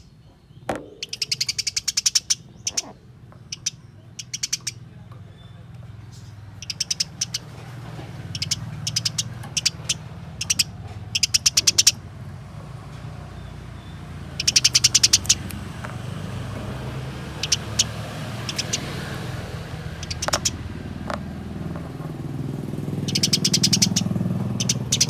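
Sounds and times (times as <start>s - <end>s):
sparrows chirping: 0.0s - 25.0s.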